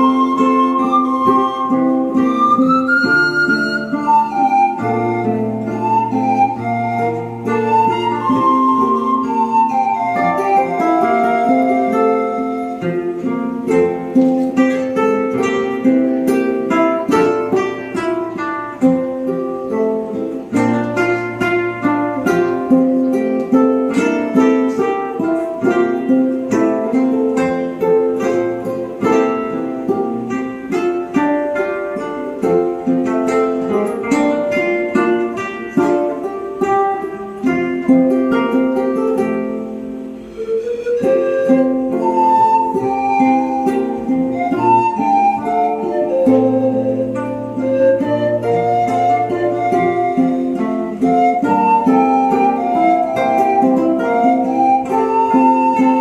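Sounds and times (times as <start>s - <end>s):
classical guitar playing: 0.0s - 56.0s
ukulele playing: 0.0s - 56.0s.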